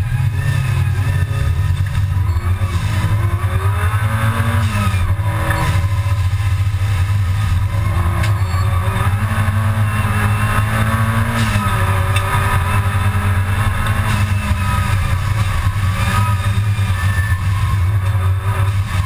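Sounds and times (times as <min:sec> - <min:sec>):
race car engine in cabin: 0:00.0 - 0:19.0.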